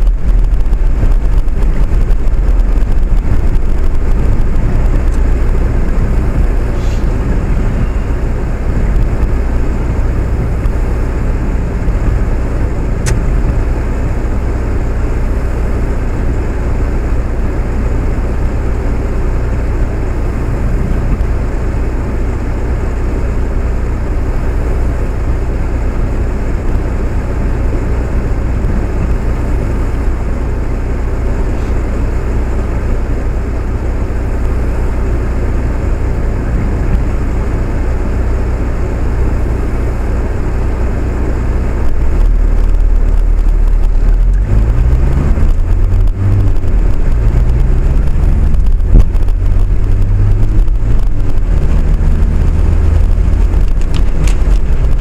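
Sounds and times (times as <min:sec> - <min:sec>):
rising whine: 0:00.0 - 0:55.0
vehicle ride rumble: 0:00.0 - 0:55.0.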